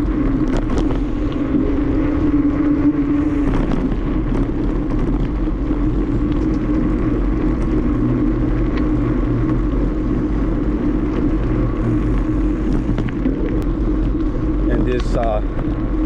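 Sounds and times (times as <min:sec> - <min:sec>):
bicycle tyres rolling: 0:00.0 - 0:16.0
wind buffeting microphone: 0:00.0 - 0:16.0.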